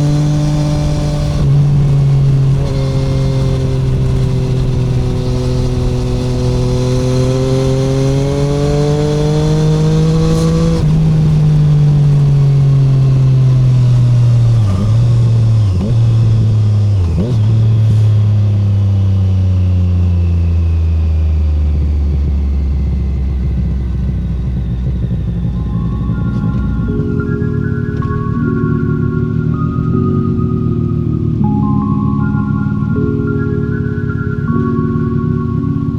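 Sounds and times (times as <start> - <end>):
motorcycle engine revving: 0.0 - 33.7.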